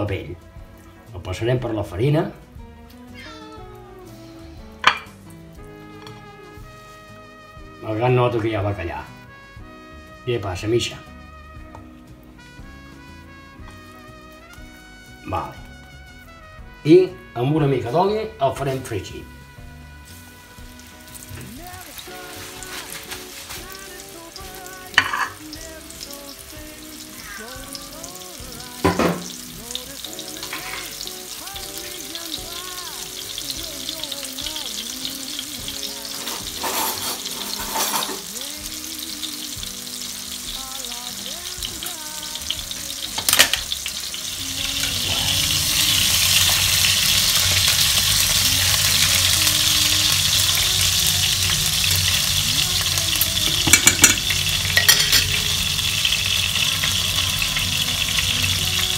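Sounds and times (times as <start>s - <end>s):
fish sizzling in oil: 2.4s - 7.8s, 11.0s - 16.8s, 19.1s - 58.9s.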